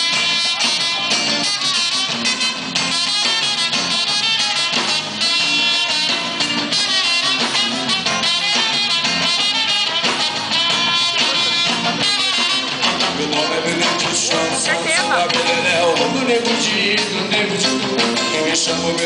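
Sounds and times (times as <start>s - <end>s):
live band with brass and guitar: 0.0s - 19.0s.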